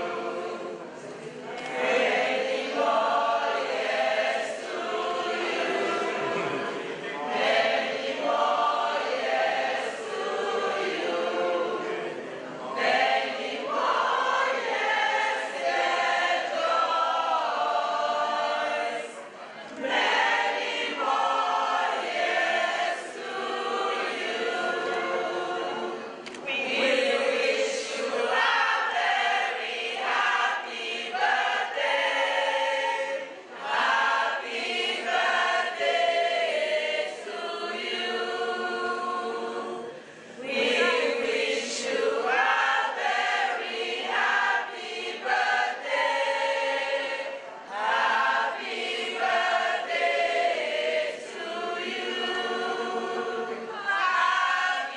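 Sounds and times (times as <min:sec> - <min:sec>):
women's choir singing: 0:00.0 - 0:54.9.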